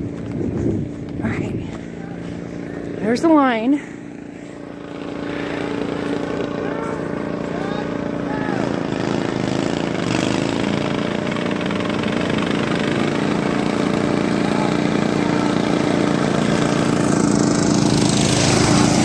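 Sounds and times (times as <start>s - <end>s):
riding lawn mower engines: 0.0s - 19.0s.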